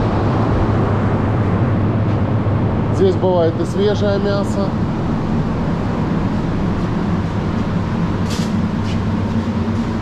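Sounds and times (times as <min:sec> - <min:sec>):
air-conditioning units humming: 0:00.0 - 0:10.0.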